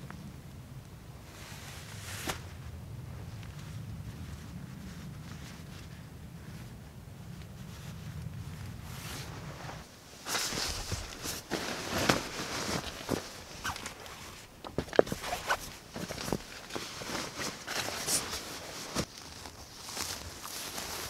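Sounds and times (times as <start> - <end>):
low steady hum: 0.0 - 21.0
tent fabric and foam pad rustling: 1.2 - 21.0.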